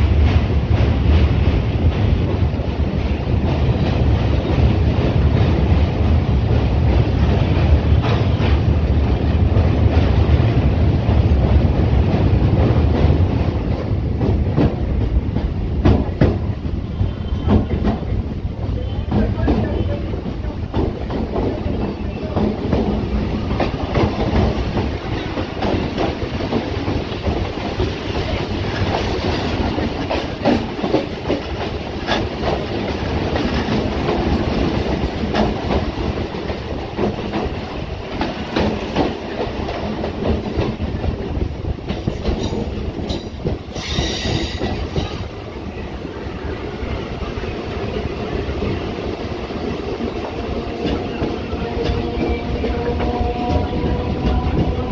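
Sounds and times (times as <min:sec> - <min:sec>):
passing train rushing by: 0:00.0 - 0:54.9
train rumbling: 0:00.0 - 0:54.9.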